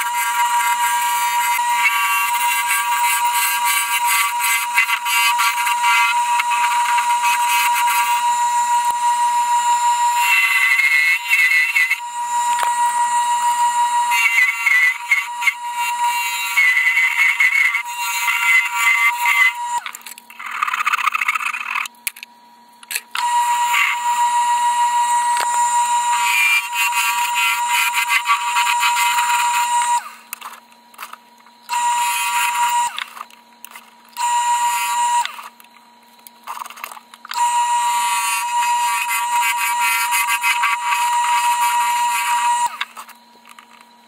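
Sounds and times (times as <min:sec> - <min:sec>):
wood lathe humming: 0:00.0 - 0:21.9, 0:23.2 - 0:33.3, 0:34.1 - 0:35.7, 0:36.4 - 0:43.8
turning tool whining scrape: 0:00.0 - 0:22.2, 0:22.8 - 0:44.0.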